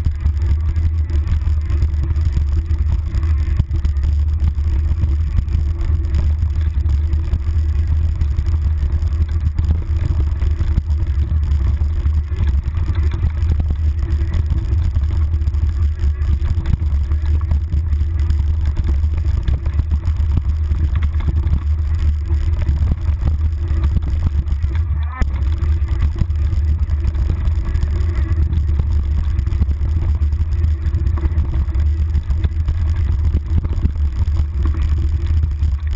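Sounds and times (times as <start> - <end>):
bike rattling over roots and rocks: 0.0 - 35.9
wind rumble: 0.0 - 35.9.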